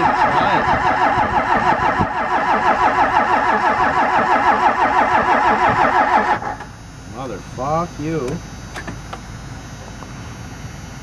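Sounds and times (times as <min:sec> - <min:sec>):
starter motor cranking diesel engine: 0:00.0 - 0:09.4.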